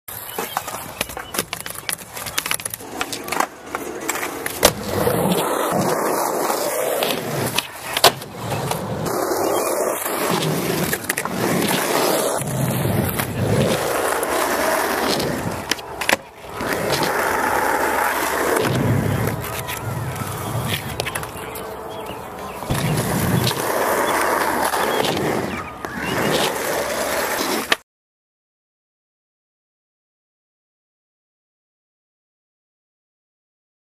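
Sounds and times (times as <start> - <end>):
skateboard clacks: 0.1 - 27.8
skateboard wheels rolling: 0.1 - 27.8.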